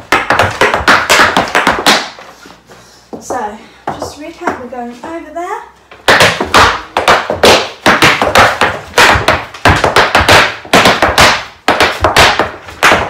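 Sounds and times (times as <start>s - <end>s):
hard shoes tapping on floor: 0.0s - 13.0s.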